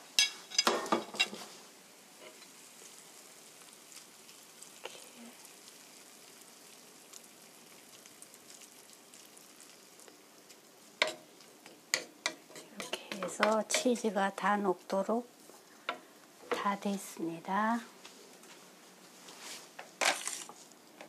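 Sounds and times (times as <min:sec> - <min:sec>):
faint sizzle in frying pan: 0:00.0 - 0:21.0.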